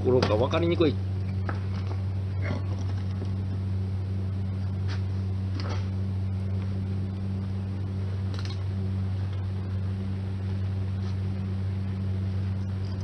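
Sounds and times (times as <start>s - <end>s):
welding machine electrical hum: 0.0s - 13.0s.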